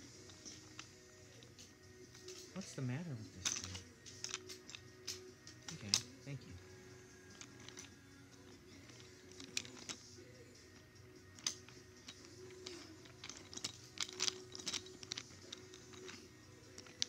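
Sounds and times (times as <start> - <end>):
faint steady hum: 0.0 - 17.0
toy cars clicking on wooden track: 0.2 - 17.0.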